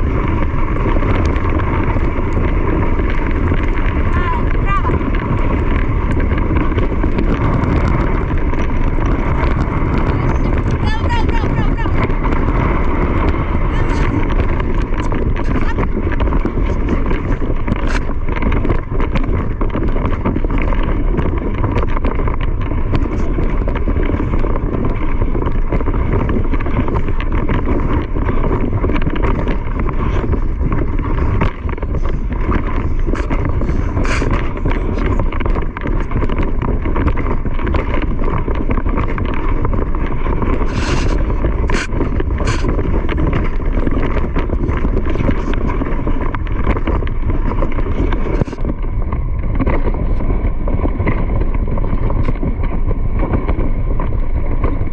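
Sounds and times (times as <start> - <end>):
vehicle running and road rumble: 0.0 - 54.9
wind buffeting microphone: 0.0 - 54.9.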